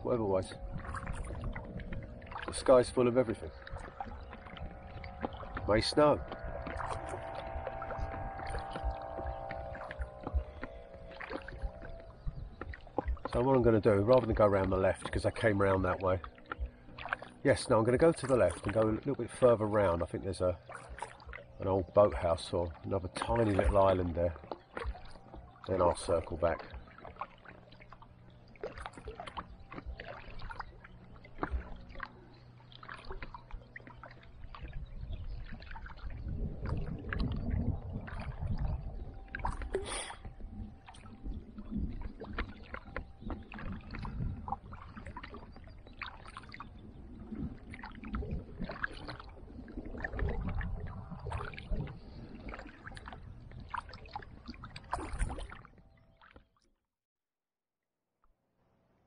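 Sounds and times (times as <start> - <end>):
paddle splashing: 0.0 - 56.5
water rumbling against hull: 0.0 - 56.6.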